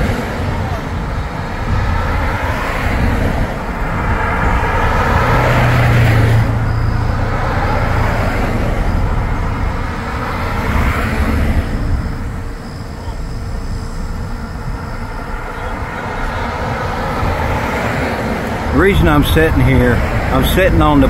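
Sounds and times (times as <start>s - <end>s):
vehicles driving past: 0.0s - 21.0s.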